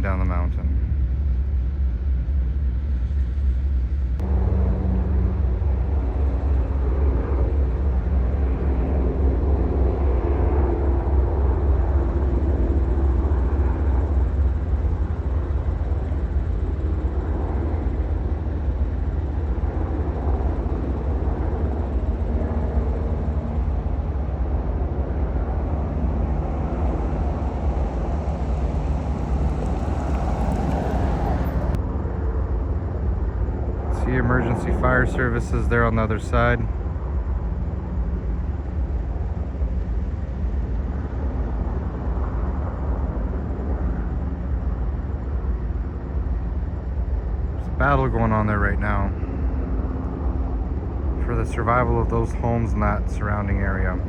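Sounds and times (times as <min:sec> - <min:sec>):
faint humming tones: 0:00.0 - 0:54.0
heavy low engine rumble: 0:00.0 - 0:54.0.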